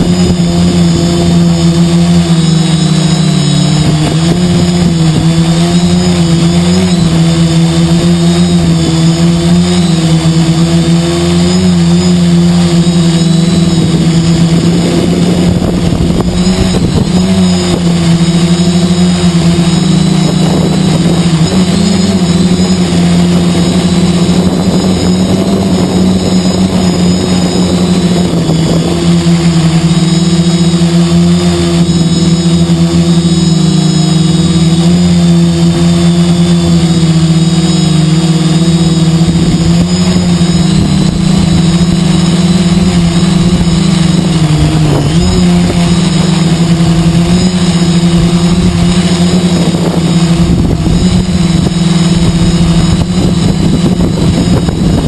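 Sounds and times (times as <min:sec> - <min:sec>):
drone motors droning: 0:00.0 - 0:55.0
wind buffeting microphone: 0:00.0 - 0:55.0.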